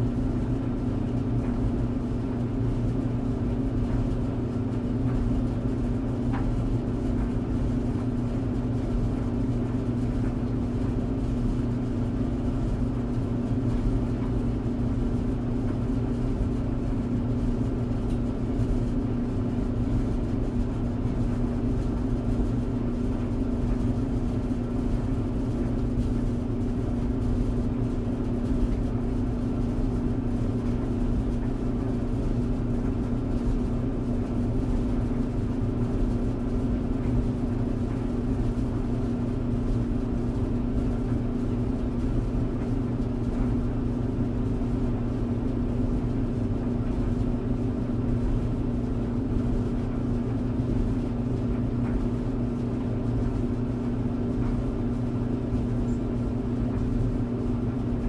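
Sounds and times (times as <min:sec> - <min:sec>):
tumble dryer running: 0:00.0 - 0:58.0.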